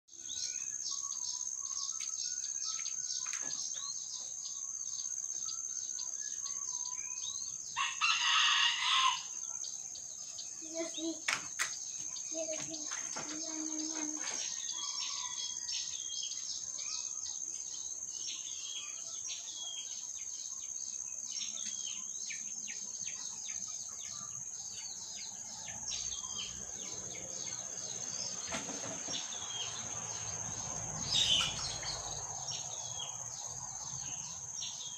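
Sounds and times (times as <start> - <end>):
fledgling bird chirping: 0.1 - 34.9.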